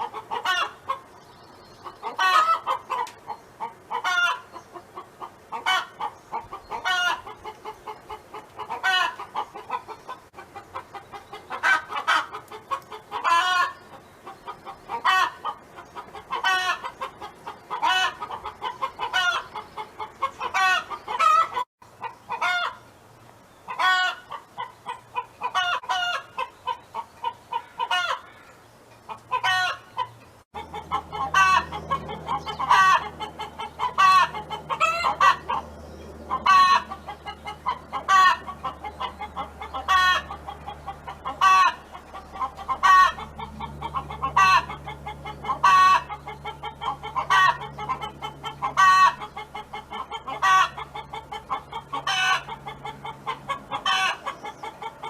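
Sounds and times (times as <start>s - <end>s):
hens clucking: 0.0s - 22.9s, 23.7s - 28.4s, 29.0s - 55.0s.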